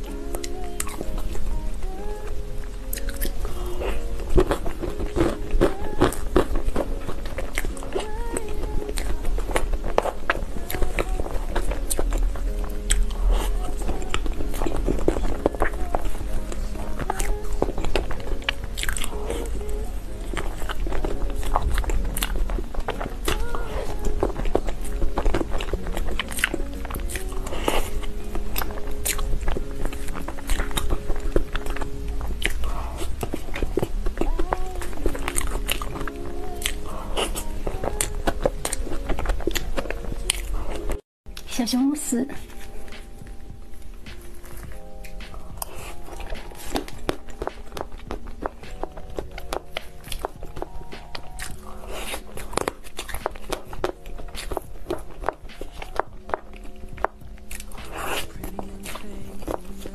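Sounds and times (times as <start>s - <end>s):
person chewing with wet mouth clicks: 0.0s - 41.5s, 42.4s - 59.9s.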